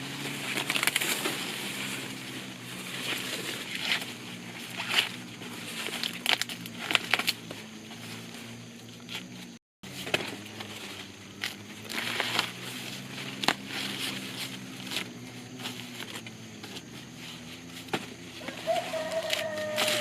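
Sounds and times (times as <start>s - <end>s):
dry plants rustling and crackling: 0.0s - 20.0s.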